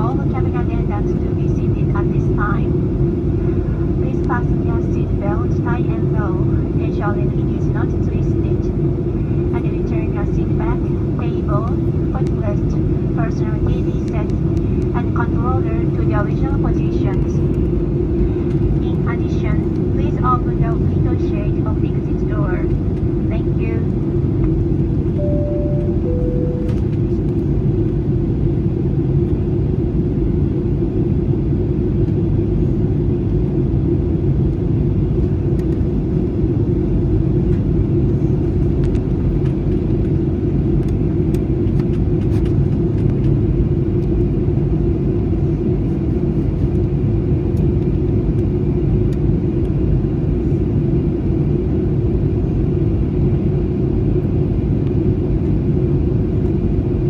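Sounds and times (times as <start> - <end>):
airliner cabin engine rumble: 0.0 - 57.0
constant low hum: 0.0 - 57.0.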